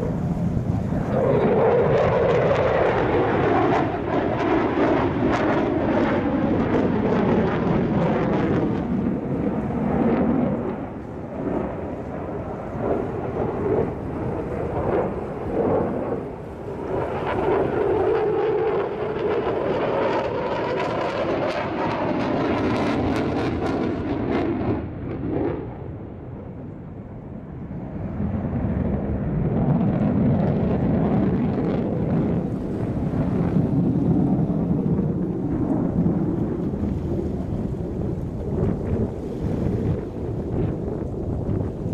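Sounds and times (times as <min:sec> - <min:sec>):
fighter jet engine roar: 0:00.0 - 0:41.9.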